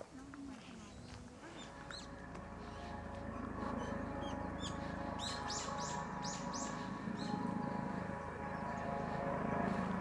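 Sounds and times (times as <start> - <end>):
low background hum: 0.0 - 10.0
birds chirping: 0.6 - 10.0.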